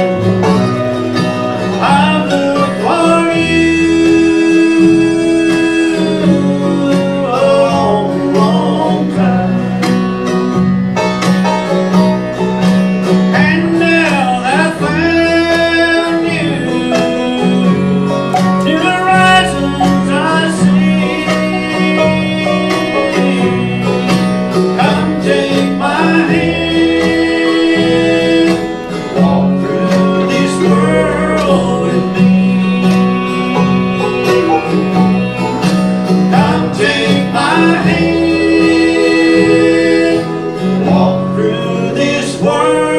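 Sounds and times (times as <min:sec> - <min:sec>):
bluegrass band instrumental: 0:00.0 - 0:42.9.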